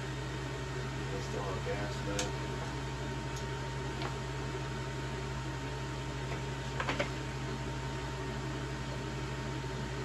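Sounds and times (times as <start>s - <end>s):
room background hum and hiss: 0.0s - 10.0s.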